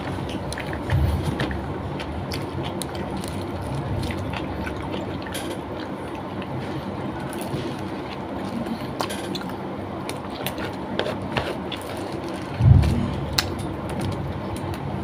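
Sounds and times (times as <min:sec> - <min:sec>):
person chewing: 0:00.0 - 0:14.2.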